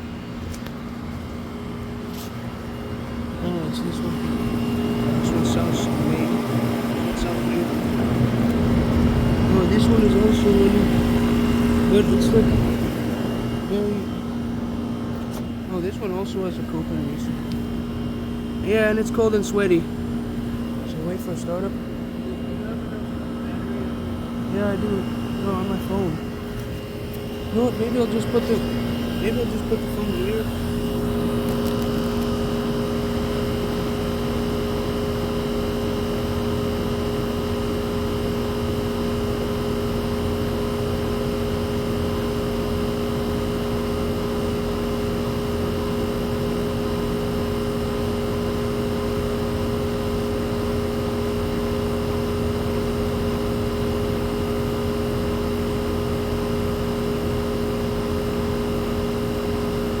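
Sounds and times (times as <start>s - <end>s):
air conditioner compressor humming: 0.0s - 60.0s.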